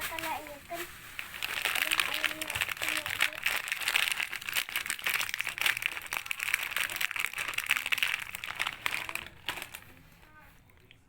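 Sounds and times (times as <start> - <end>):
plastic snack packet crinkling: 0.0 - 11.0.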